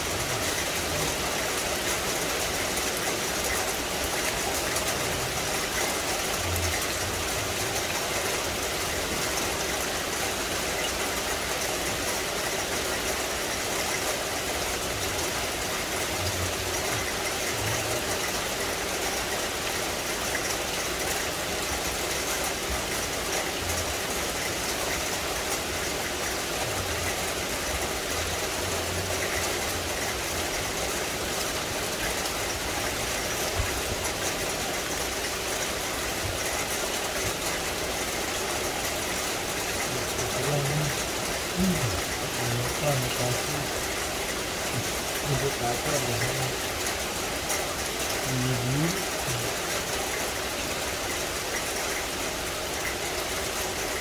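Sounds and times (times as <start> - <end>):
rain on foliage: 0.0 - 54.0.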